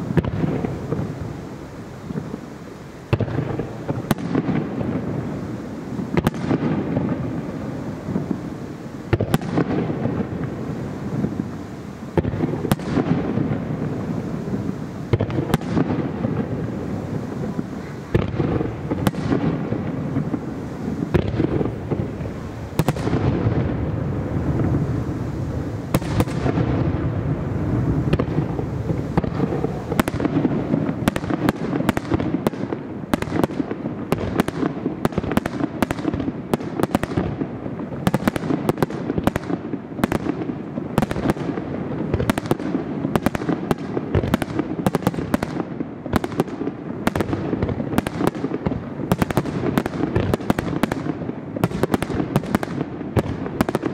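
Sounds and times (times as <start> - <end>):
fireworks bursting with sharp bangs: 0.0 - 53.9.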